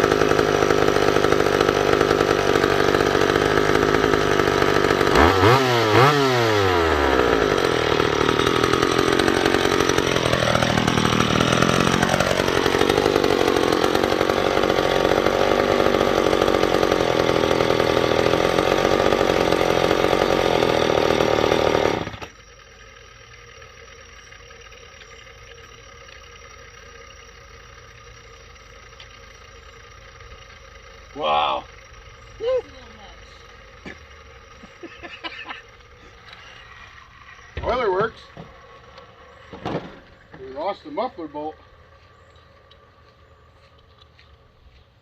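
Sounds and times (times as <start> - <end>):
chainsaw engine running: 0.0 - 45.0.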